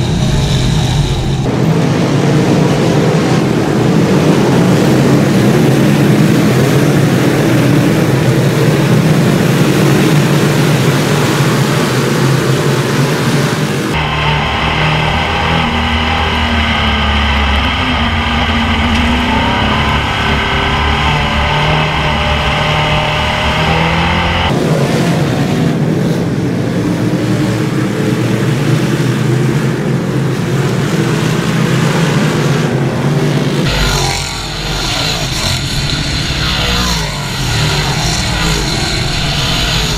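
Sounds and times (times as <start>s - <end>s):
race car engine close: 0.0s - 39.9s
race cars droning around track: 0.0s - 39.9s.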